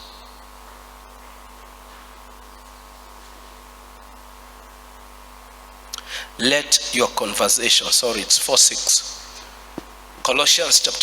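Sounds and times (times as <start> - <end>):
electrical mains hum: 0.0 - 11.0
faint microphone hiss: 0.0 - 11.0.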